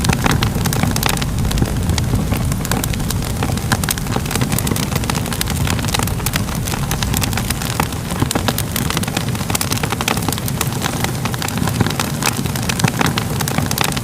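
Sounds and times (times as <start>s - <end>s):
fire roaring and crackling: 0.0s - 14.0s.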